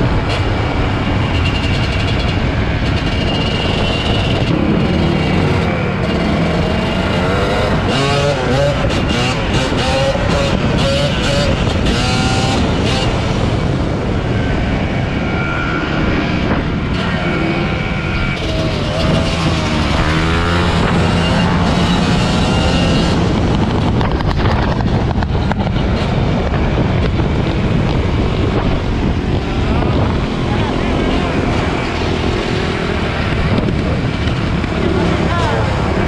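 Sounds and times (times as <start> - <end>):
motorcycle engines revving: 0.0 - 36.0
road and wind noise: 0.0 - 36.0.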